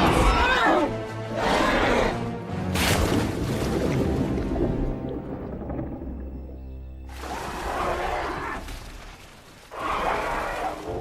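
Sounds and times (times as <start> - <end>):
orchestral film music: 0.0 - 9.8.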